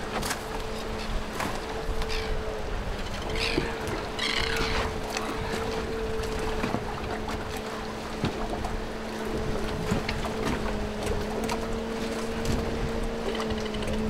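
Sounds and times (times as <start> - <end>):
boat motor running: 0.0 - 14.0
wind and water: 0.0 - 14.0.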